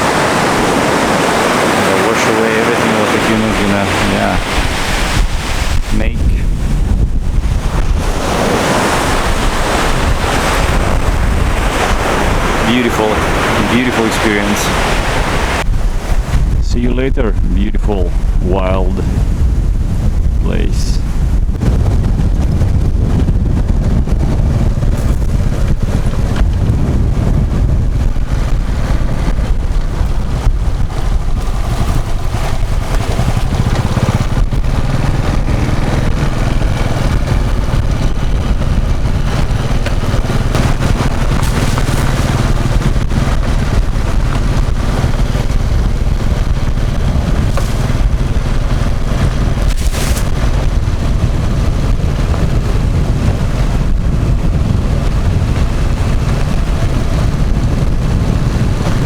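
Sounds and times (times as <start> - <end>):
vehicle engine running: 0.0 - 59.0
wind buffeting microphone: 0.0 - 59.0.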